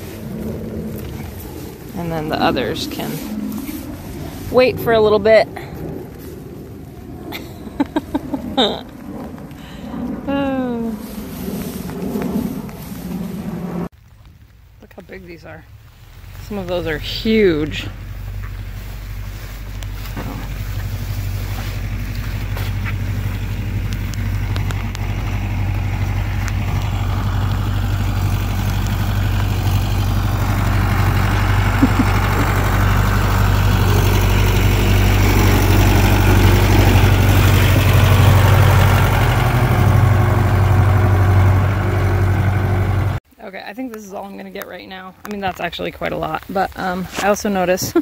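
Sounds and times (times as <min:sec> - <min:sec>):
lawn mower engine humming: 0:00.0 - 0:43.3.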